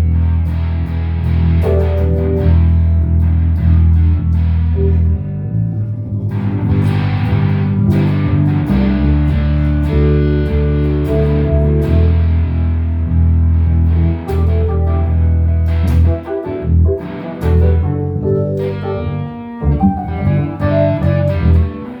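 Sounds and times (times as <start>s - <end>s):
guitar: 0.0s - 22.0s
heavy sustained bass notes: 0.0s - 22.0s.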